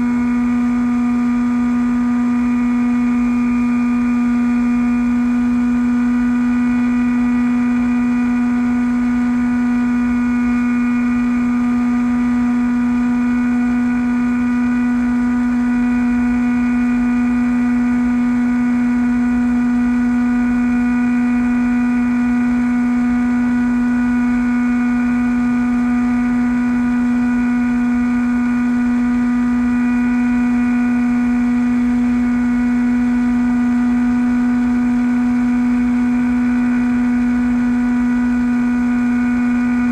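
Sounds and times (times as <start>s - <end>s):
electric motor and propeller: 0.0s - 39.9s.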